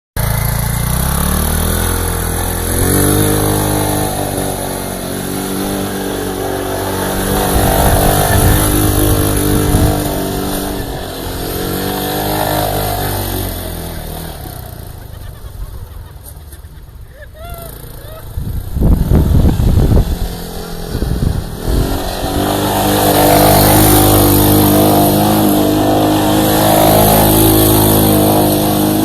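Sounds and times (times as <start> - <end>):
atv engine revving: 0.2 - 29.0.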